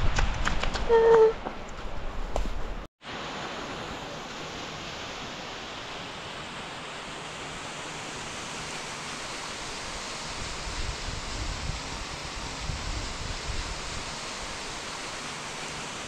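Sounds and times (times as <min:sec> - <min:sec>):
fast-flowing water rushing: 0:03.1 - 0:16.0.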